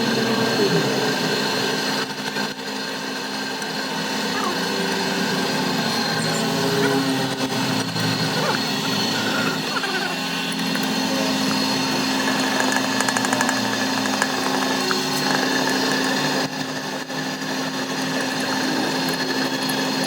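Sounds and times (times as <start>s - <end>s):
machine tool humming: 0.0s - 20.0s.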